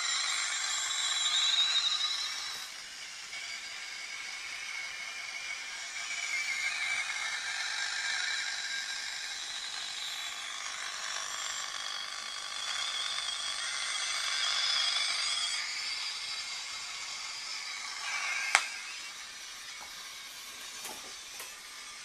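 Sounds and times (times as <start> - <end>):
faint wavering whistles: 0.0 - 22.0.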